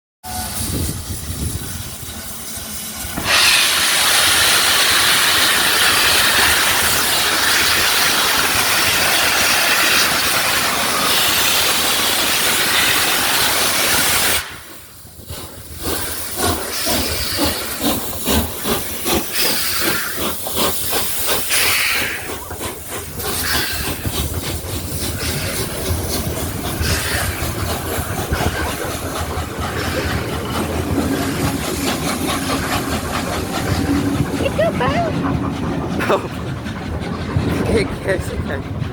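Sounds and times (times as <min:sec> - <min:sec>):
steam locomotive chuffing: 0:00.2 - 0:38.9
steam hissing: 0:00.3 - 0:38.9.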